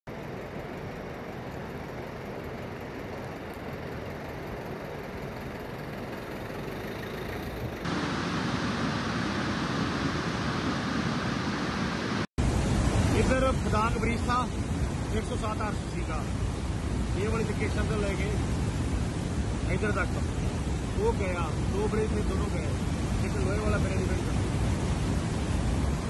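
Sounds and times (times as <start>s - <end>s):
floodwater rushing in river: 0.1s - 26.0s.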